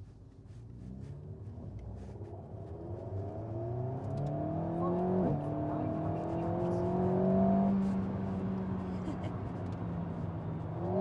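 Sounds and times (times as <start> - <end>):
car engine accelerating: 0.5 - 11.0.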